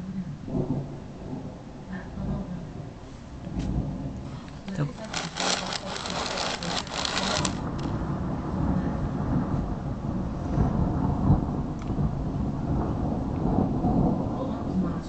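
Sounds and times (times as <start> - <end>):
thunder crackling and rumbling: 0.4 - 5.1, 6.8 - 15.0.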